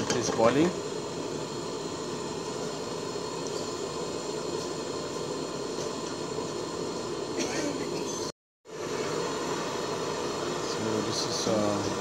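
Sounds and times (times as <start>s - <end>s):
gas burner flame hissing: 0.0s - 12.0s.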